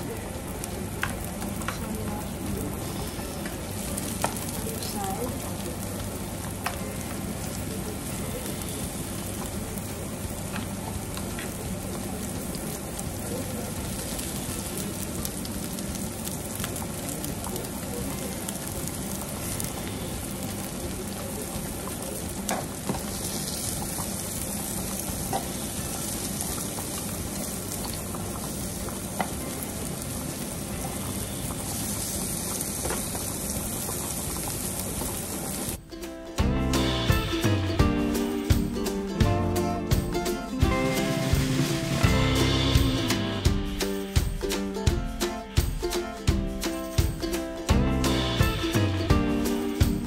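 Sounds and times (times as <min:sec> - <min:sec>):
vegetables sizzling in frying pan: 0:00.0 - 0:44.9, 0:46.4 - 0:50.0.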